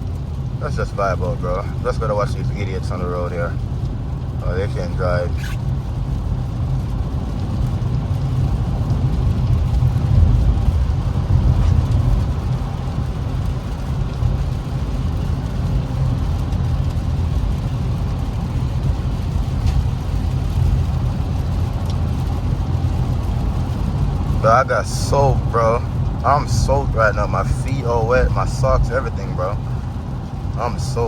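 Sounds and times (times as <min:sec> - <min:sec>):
car engine and tyre drone: 0:00.0 - 0:31.0.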